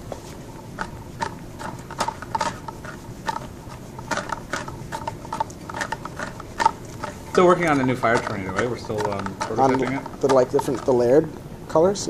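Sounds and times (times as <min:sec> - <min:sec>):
spinning apparatus clicking: 0:00.5 - 0:11.3.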